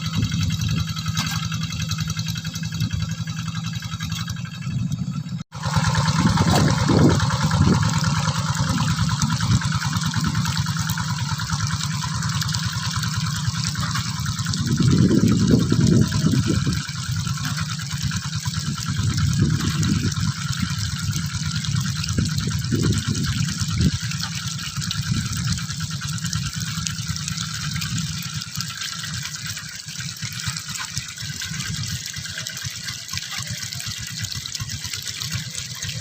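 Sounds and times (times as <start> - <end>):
hand tractor diesel engine running: 0.0 - 36.0.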